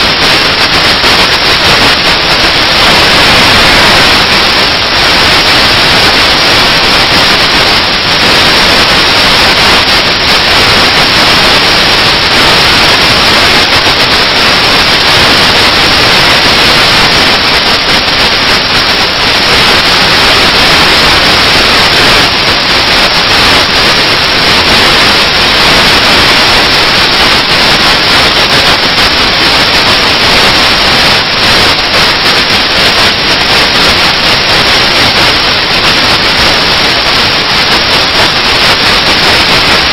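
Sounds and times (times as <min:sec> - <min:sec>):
loud steady static hiss: 0:00.0 - 0:39.9.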